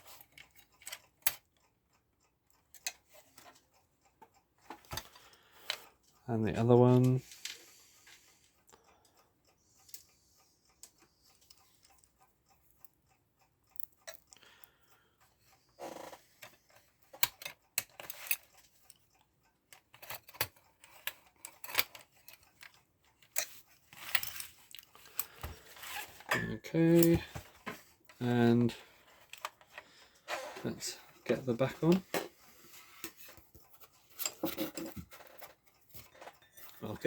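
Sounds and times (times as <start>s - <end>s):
clicks of metal clock parts: 0.0s - 9.2s, 9.8s - 37.0s.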